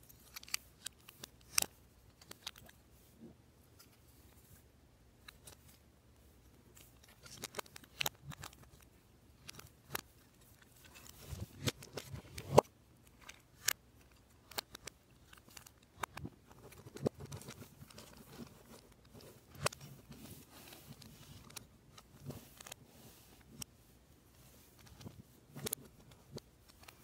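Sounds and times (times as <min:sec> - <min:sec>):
plastic parts clicking and snapping: 0:00.0 - 0:02.8, 0:05.2 - 0:05.8, 0:06.7 - 0:22.8, 0:24.5 - 0:27.0.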